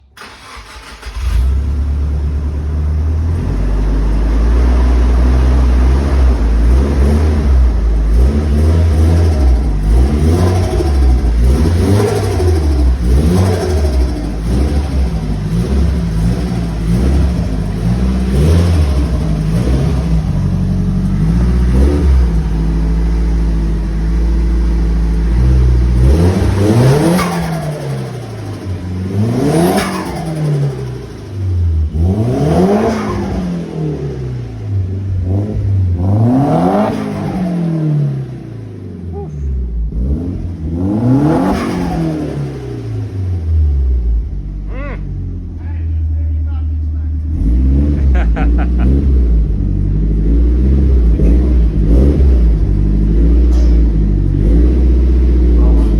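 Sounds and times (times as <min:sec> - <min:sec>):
car engine revving: 0:00.2 - 0:55.9.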